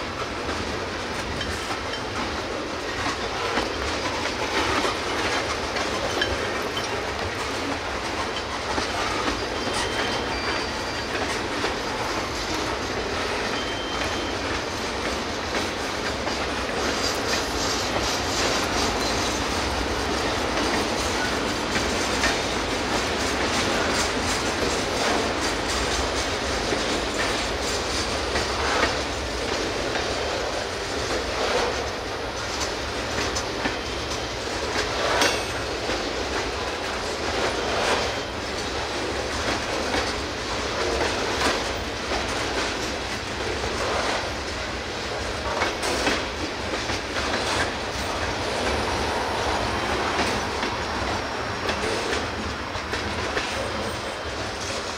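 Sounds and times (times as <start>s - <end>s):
wheels clacking over rail joints: 0.0s - 54.9s.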